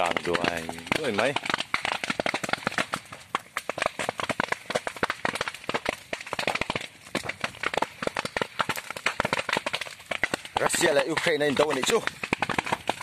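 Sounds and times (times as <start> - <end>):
brush fire crackling: 0.0 - 13.0.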